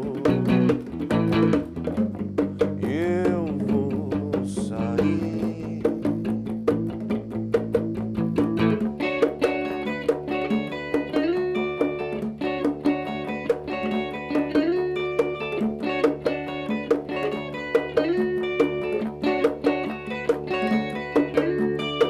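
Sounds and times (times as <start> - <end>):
bass guitar: 0.0 - 22.0
electric guitar lines: 0.0 - 22.0
hand drums: 0.0 - 22.0.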